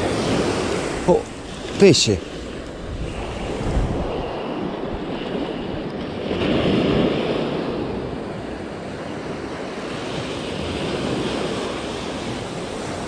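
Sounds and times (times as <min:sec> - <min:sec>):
small waves on sandy beach: 0:00.0 - 0:13.0
wind on microphone: 0:00.0 - 0:13.0.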